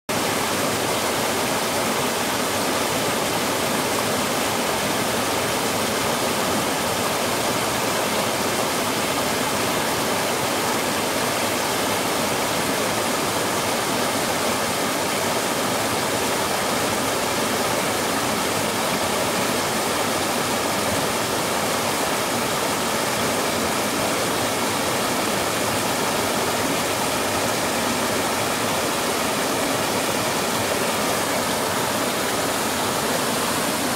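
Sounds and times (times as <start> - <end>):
small waterfall rushing: 0.1 - 33.9.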